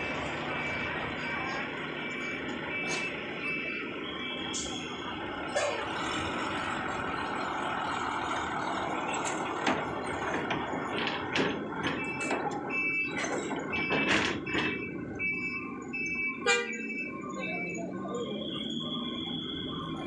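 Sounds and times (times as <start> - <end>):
heavy truck engine passing: 0.0 - 20.0.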